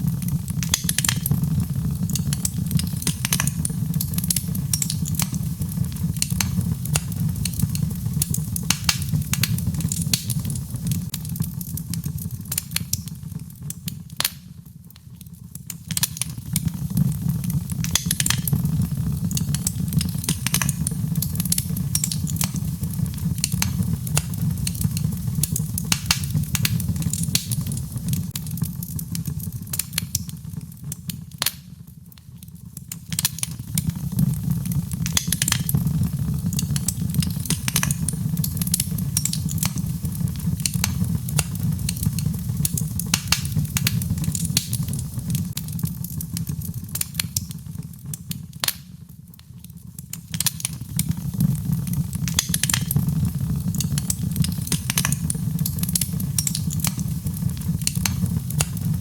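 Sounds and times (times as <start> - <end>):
fire crackling and popping: 0.0 - 59.0
low rumble of fire: 0.0 - 59.0.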